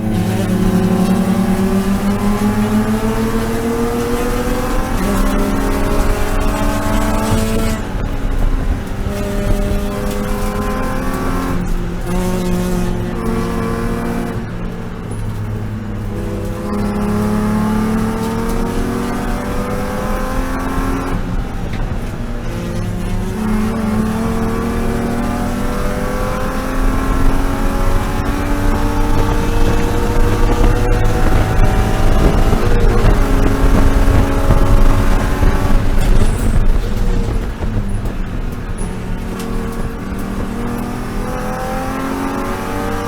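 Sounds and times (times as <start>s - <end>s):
race car engine accelerating: 0.0s - 43.0s.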